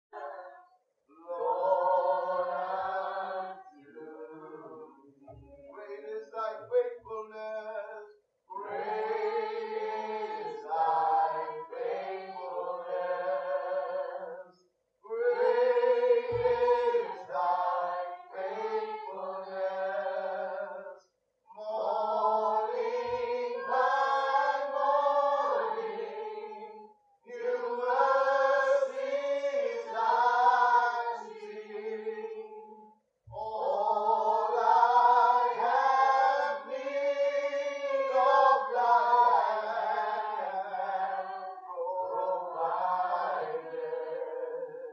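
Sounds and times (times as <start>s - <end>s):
group singing in unison: 0.1s - 44.9s.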